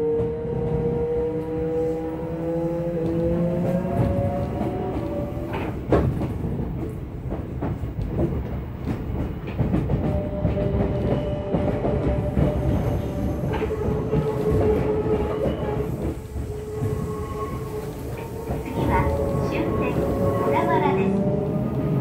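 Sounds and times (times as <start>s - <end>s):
wheel and rail rumble: 0.0s - 22.0s
rail joint clicks: 2.8s - 22.0s.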